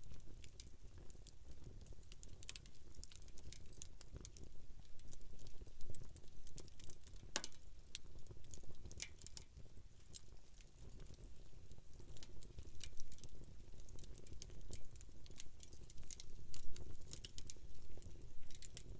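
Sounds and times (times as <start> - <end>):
campfire wood crackling: 0.0 - 18.9.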